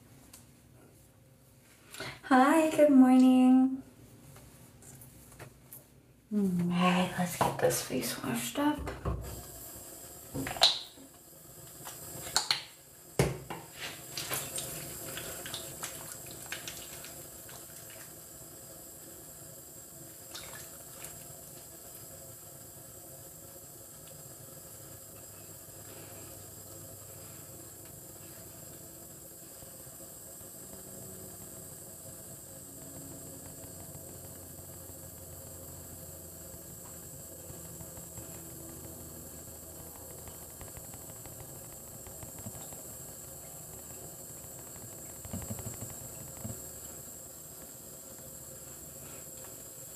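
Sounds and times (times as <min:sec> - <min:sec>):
steady background hiss: 0:00.0 - 0:49.9
water running at sink: 0:06.6 - 0:49.9.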